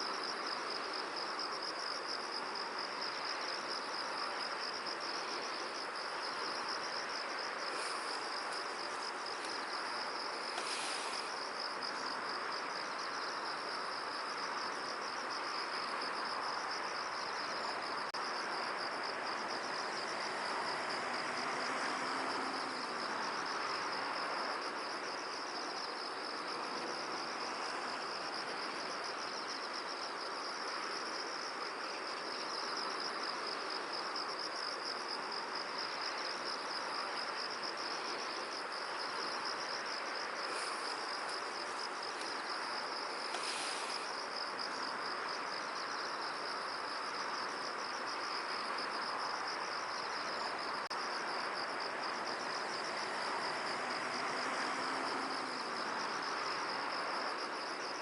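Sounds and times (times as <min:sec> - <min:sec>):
crickets trilling: 0:00.0 - 0:58.0
soft steady hiss: 0:00.0 - 0:58.0.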